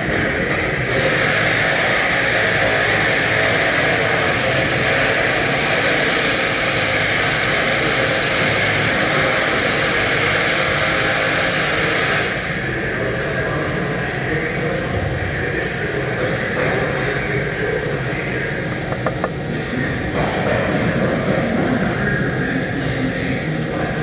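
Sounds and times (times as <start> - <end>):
shop machinery rushing noise: 0.0 - 24.0.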